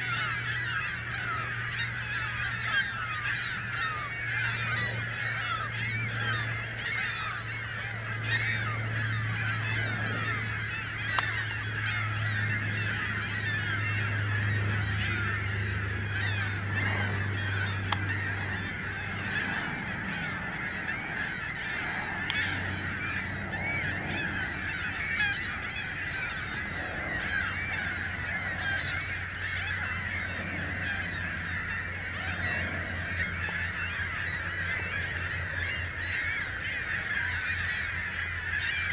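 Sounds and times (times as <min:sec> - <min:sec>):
swans honking: 0:00.0 - 0:38.9.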